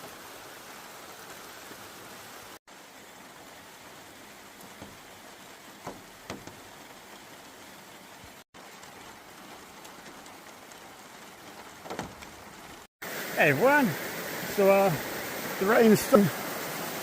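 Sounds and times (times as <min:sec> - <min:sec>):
heavy rain falling: 0:00.0 - 0:17.0
raindrops striking: 0:00.0 - 0:17.0.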